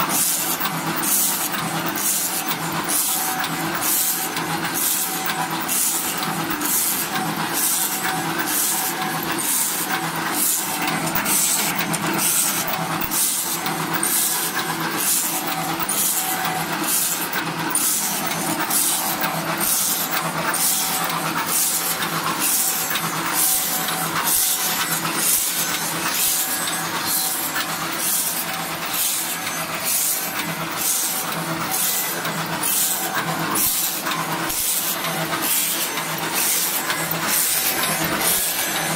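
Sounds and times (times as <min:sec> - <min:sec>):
sharp high machine stroke: 0:00.1 - 0:38.9.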